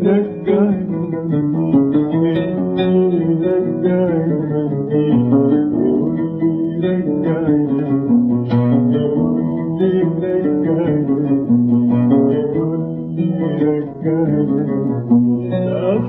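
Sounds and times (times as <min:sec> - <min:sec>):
oud melody: 0:00.0 - 0:16.0
person singing: 0:00.0 - 0:16.0.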